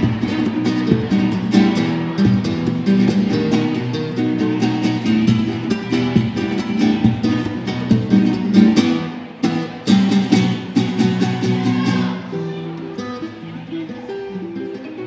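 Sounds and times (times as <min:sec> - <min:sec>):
acoustic guitar duet: 0:00.0 - 0:15.0.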